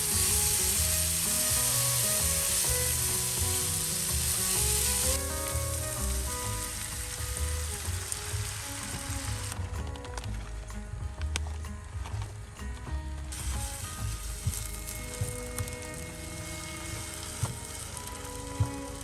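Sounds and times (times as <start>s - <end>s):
mushrooms sizzling in a frying pan: 0.0s - 9.6s, 13.3s - 19.0s
background music: 0.0s - 19.0s.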